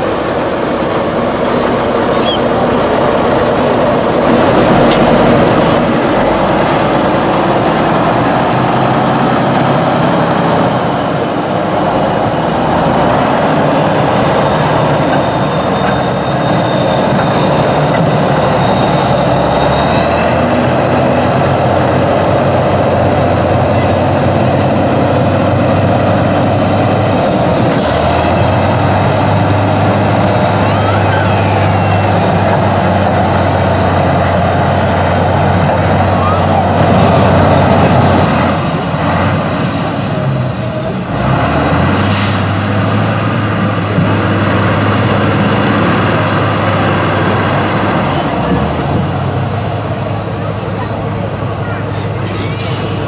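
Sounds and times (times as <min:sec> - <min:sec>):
truck diesel engine running: 0:00.0 - 0:53.0.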